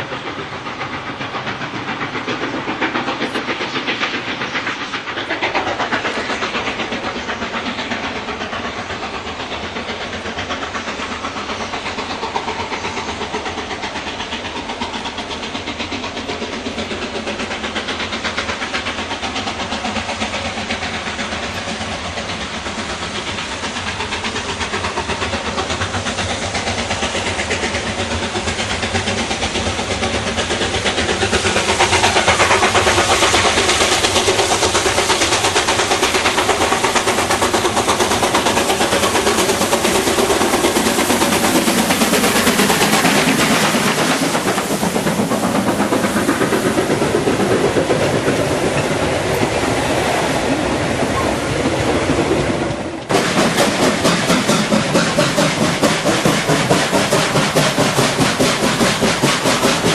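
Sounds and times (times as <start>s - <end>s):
steam locomotive exhaust beats: 0.0s - 59.9s
train wheels clattering: 0.0s - 59.9s.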